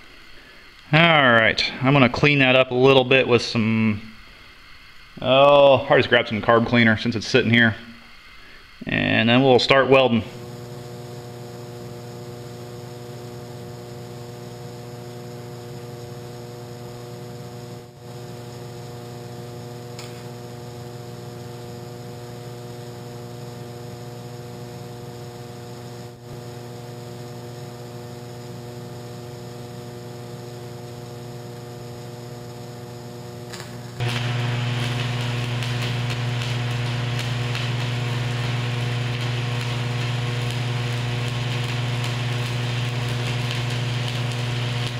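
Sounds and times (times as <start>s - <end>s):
welder transformer humming: 0.0s - 44.9s
welding arc crackling sizzle: 0.0s - 44.9s.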